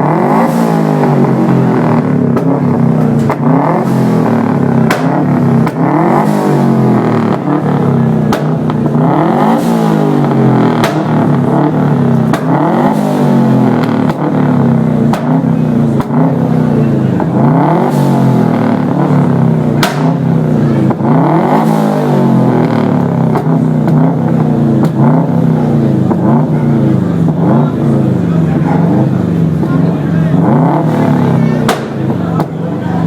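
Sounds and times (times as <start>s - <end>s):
car engine revving: 0.0s - 33.0s
exhaust pops: 1.1s - 33.0s.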